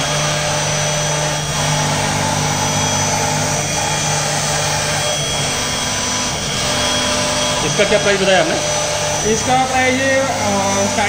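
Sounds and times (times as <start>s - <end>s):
router grinding: 0.0s - 11.0s
router spindle whining: 0.0s - 11.0s.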